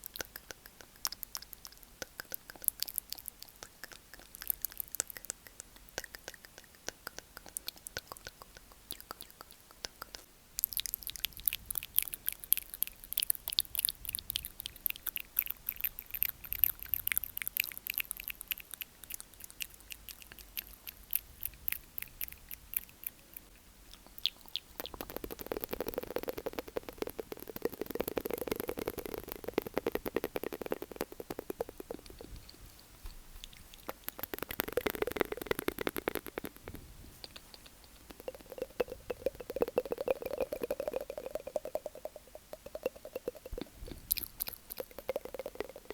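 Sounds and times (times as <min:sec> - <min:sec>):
wet tongue and lip clicks: 0:00.0 - 0:45.9.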